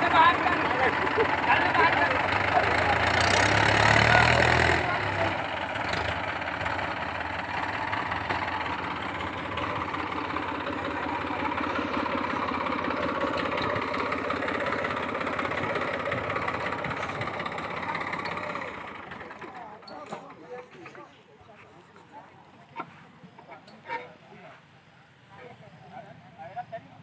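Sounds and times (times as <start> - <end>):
tractor diesel engine running: 0.0 - 22.6.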